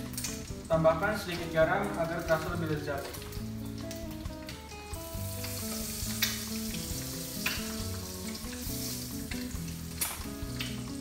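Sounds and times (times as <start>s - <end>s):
egg sizzling in hot oil: 0.0s - 11.0s.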